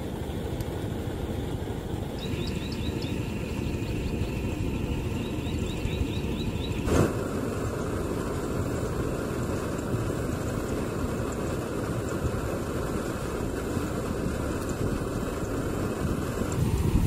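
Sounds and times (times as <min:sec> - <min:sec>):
gas stove burner rushing: 0:00.0 - 0:17.0.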